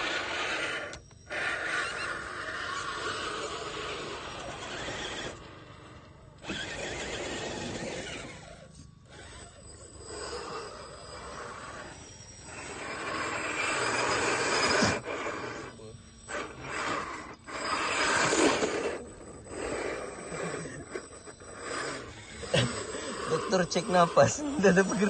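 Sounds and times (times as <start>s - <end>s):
tyres scrabbling in dirt: 0.0s - 11.9s, 12.5s - 25.0s
toy electric motors whirring: 0.0s - 25.0s.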